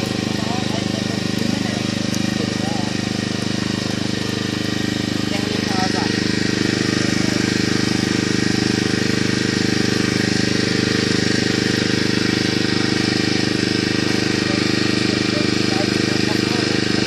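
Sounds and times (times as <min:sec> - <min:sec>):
small engine chugging: 0:00.0 - 0:17.0.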